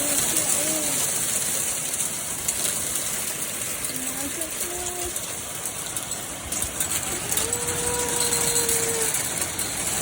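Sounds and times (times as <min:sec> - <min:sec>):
hailstones clattering on hard surfaces: 0:00.0 - 0:10.0.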